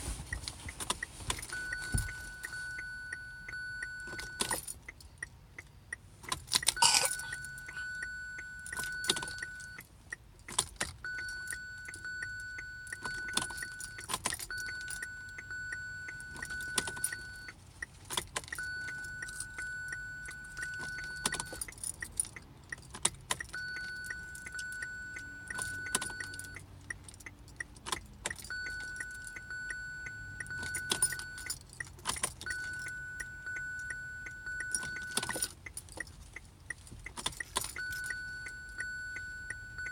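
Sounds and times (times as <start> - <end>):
car warning chime: 0.0 - 39.9
regular ticking: 0.1 - 39.9
keys jangling and clicking: 3.4 - 5.2, 6.2 - 15.5, 16.1 - 29.6, 30.4 - 38.9.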